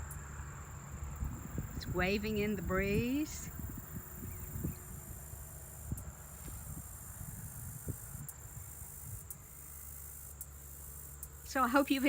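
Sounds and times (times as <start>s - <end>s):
wind rumble on microphone: 0.0s - 9.8s
insects trilling: 0.0s - 12.0s.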